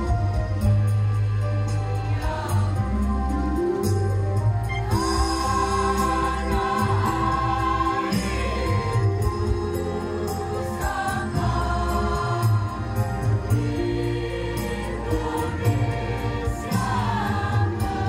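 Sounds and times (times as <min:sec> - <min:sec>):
mixed choir singing held notes: 0:00.6 - 0:03.8, 0:04.7 - 0:18.0.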